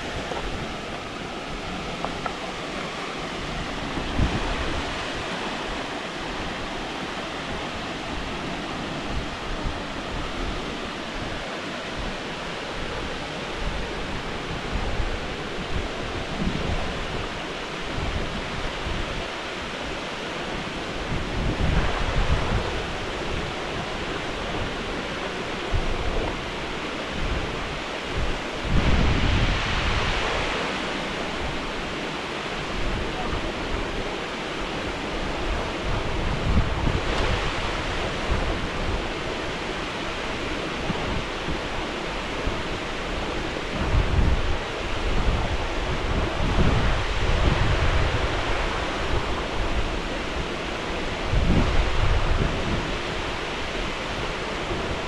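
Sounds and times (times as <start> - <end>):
water rushing over weir: 0.0 - 55.0
wind buffeting microphone: 0.0 - 55.0.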